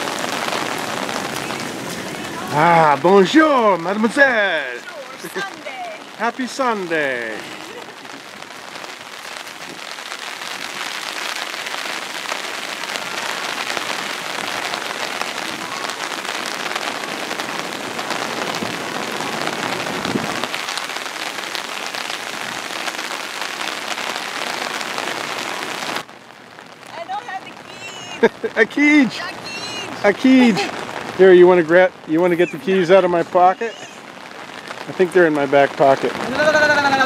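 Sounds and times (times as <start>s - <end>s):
heavy rain on wet pavement: 0.0s - 37.0s.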